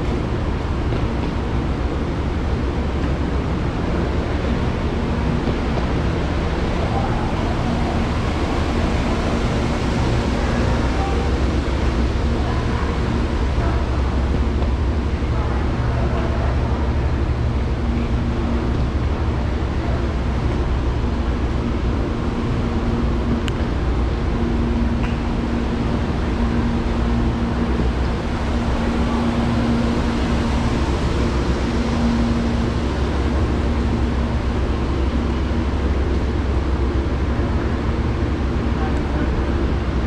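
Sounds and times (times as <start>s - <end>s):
constant hum: 0.0s - 40.0s
train rumble: 0.0s - 40.0s.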